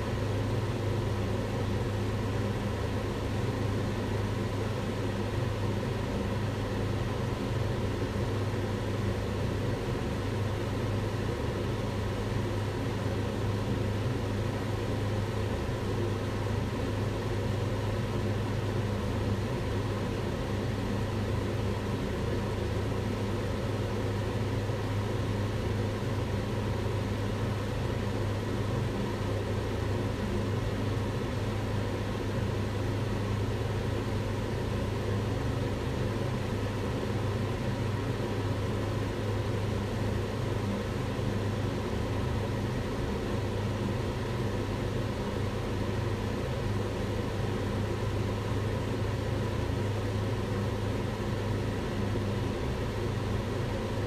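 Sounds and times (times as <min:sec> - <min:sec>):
extractor hood fan rushing: 0:00.0 - 0:54.0.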